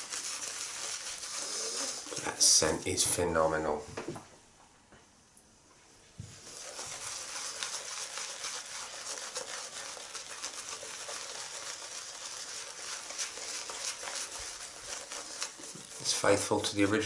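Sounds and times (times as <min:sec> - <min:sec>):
shaving brush swishing lather: 0:00.0 - 0:03.7, 0:06.2 - 0:17.0.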